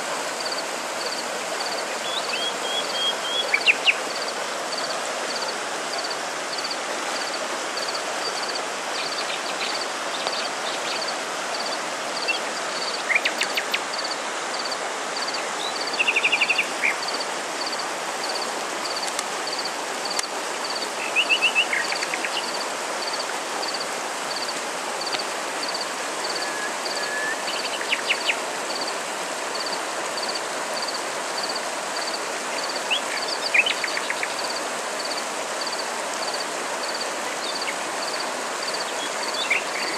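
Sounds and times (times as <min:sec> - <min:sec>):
steady rushing hiss: 0:00.0 - 0:39.9
insect chirping: 0:00.2 - 0:39.9.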